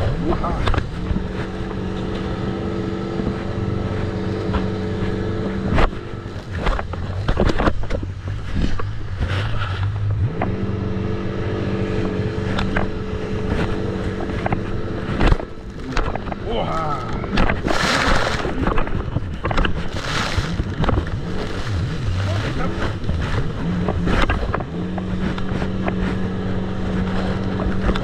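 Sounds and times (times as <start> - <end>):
jet ski engine running: 0.0 - 28.0.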